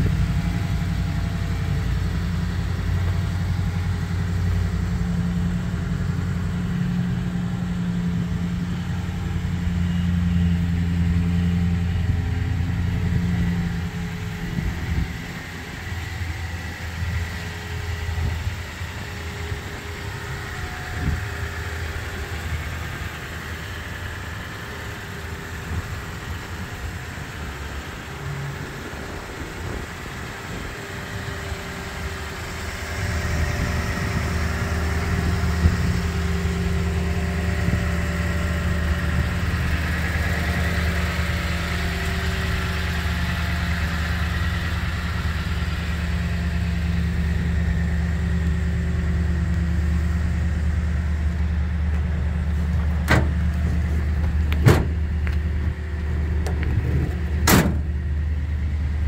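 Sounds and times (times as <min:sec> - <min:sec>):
pickup engine idling: 0:00.0 - 0:59.0.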